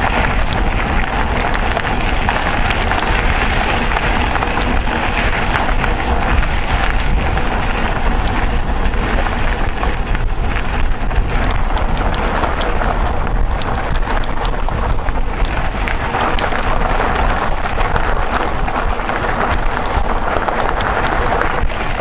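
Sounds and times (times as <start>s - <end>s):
bike tyres on gravel: 0.0s - 22.0s
stones and bike rattling: 0.0s - 22.0s
wind rumble on microphone: 0.0s - 22.0s.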